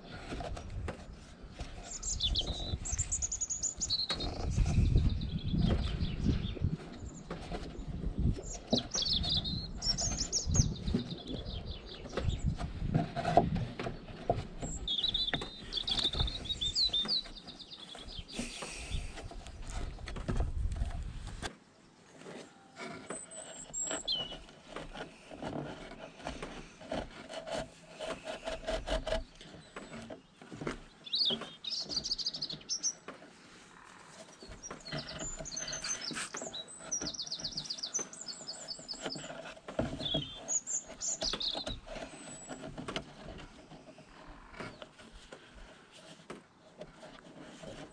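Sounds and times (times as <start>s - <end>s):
small birds chirping: 0.0s - 20.9s, 23.0s - 45.8s
rope scraping on wood: 0.0s - 21.5s, 22.1s - 47.9s
rope pulled through wood: 0.0s - 47.9s.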